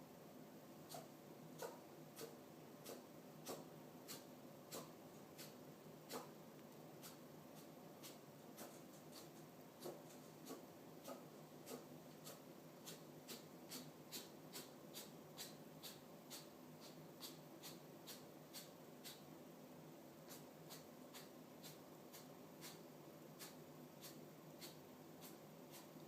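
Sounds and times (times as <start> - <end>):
rabbit sneezing: 0.9 - 6.4, 7.0 - 19.3, 20.2 - 26.0.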